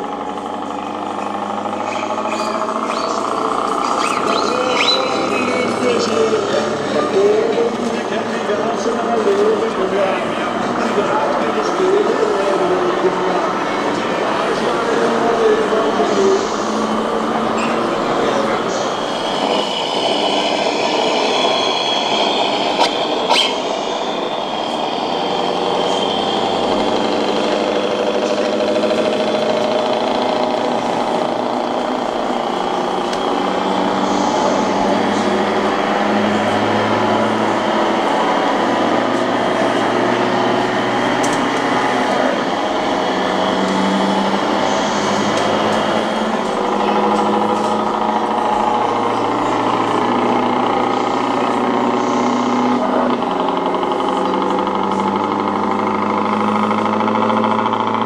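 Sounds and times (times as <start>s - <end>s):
model trucks humming: 0.0s - 58.0s.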